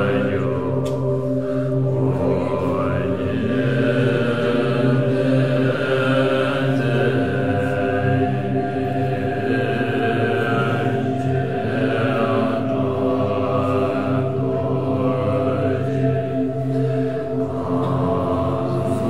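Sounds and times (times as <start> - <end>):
monks chanting in unison: 0.0 - 19.0.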